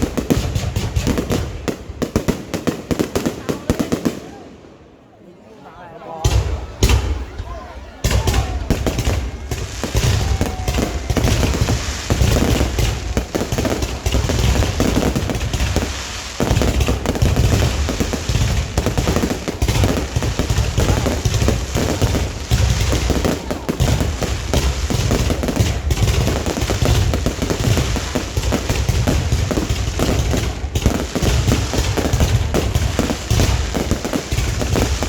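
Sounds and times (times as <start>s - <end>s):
fireworks bangs and booms: 0.0s - 4.6s, 6.2s - 35.0s.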